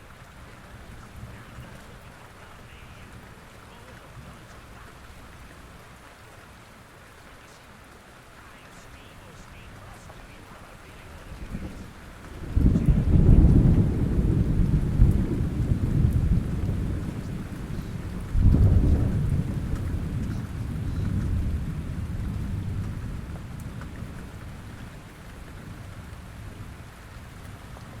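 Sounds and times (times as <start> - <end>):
thunder rumbling: 0.0 - 6.2, 8.4 - 28.0
falling rain: 0.0 - 28.0.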